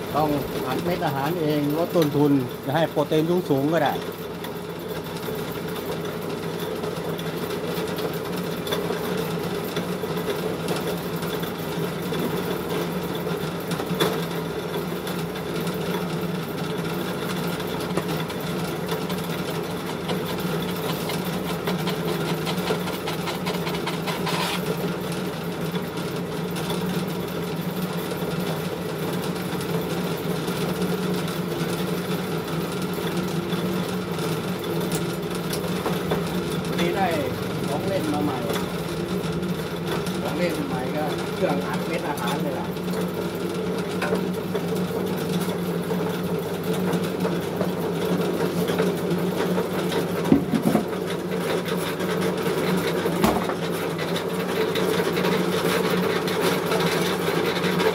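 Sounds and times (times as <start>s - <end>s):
pellet mill running: 0.0s - 57.9s.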